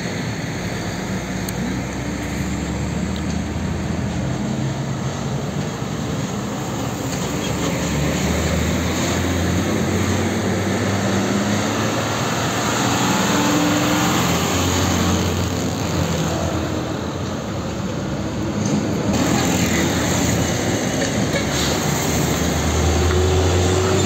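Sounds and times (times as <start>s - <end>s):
tyre and traffic noise: 0.0s - 24.0s.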